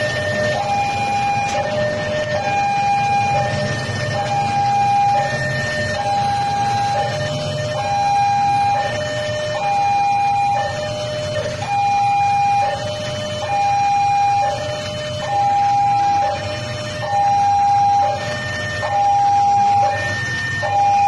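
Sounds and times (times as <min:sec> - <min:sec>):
two-tone hi-lo siren: 0:00.0 - 0:21.0.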